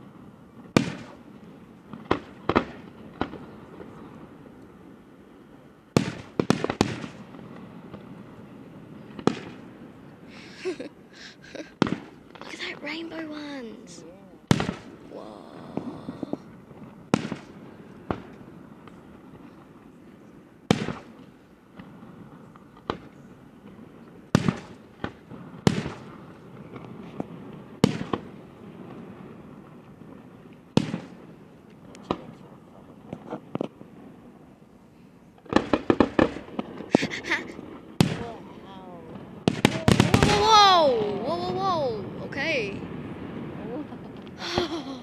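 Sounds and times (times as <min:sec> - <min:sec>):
fireworks bangs: 0:00.0 - 0:45.0
fireworks crackling pops: 0:00.0 - 0:45.0.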